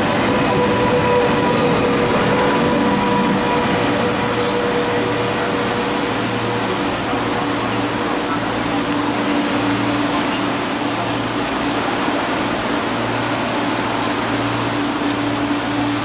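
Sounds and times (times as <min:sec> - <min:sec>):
electric train rushing past: 0:00.0 - 0:16.0.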